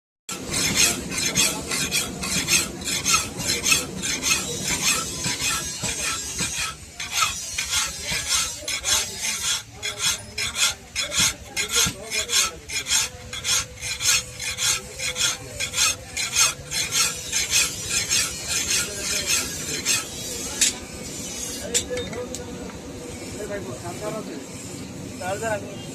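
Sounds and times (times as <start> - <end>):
knife rasping on sharpening stone: 0.3 - 22.3.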